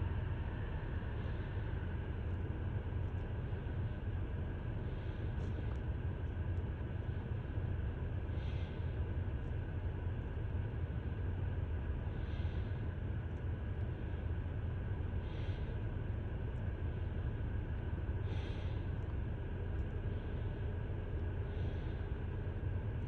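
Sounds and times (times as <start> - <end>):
soft breaths: 0.0 - 23.0
steady low rumble: 0.0 - 23.0.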